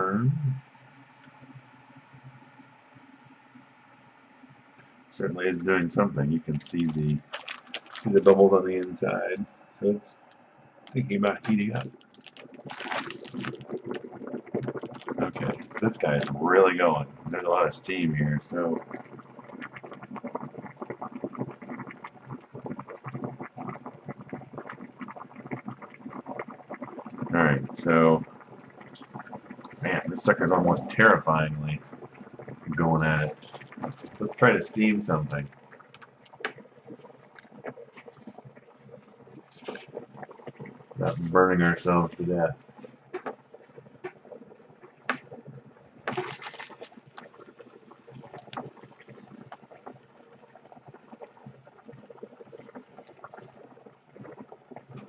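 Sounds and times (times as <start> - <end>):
water bubbling in steamer: 0.0 - 55.0.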